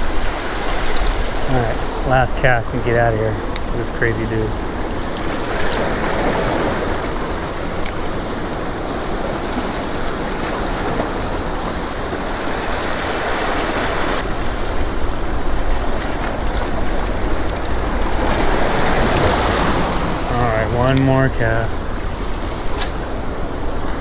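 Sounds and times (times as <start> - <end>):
water washing over rocks: 0.0 - 24.0
wind rumbling on microphone: 0.0 - 24.0.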